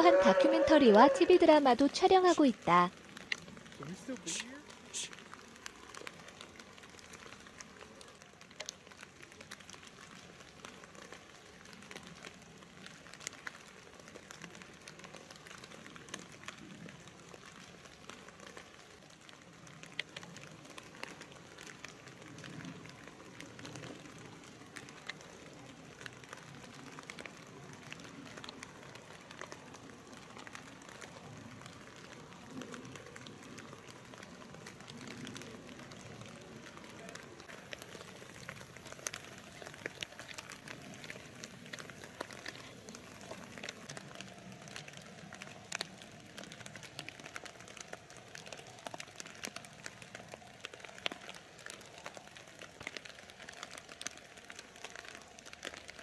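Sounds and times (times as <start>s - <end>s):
crackling hiss: 0.0s - 56.0s
small clicks and ticks: 0.9s - 56.0s.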